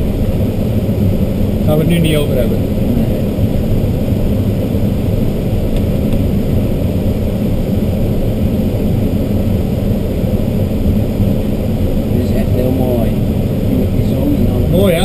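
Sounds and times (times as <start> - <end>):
airflow rushing around glider canopy: 0.0 - 15.0.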